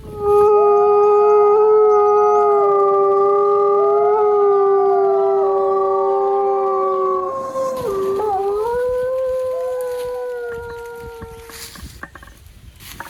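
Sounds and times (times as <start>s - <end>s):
wolves howling: 0.1s - 11.6s.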